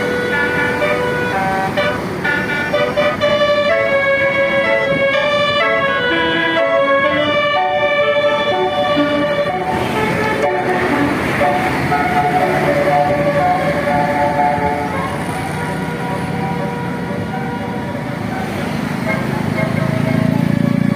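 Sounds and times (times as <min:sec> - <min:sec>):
multi-tone air horn melody: 0:00.0 - 0:20.9.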